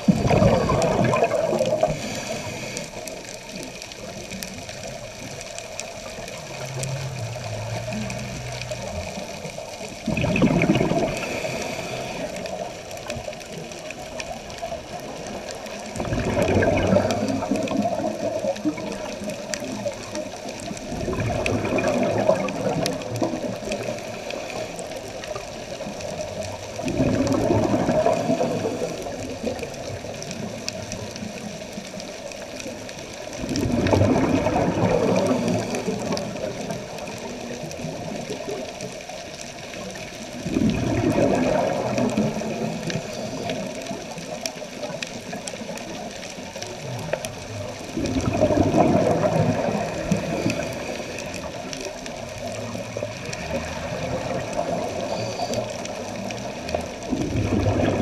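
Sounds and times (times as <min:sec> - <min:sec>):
breath bubbles gushing underwater: 0:00.0 - 0:58.0
steady underwater hiss: 0:00.0 - 0:58.0.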